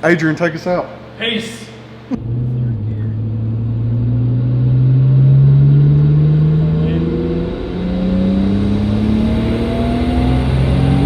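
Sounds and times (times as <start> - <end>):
car engine accelerating hard: 2.1 - 11.0.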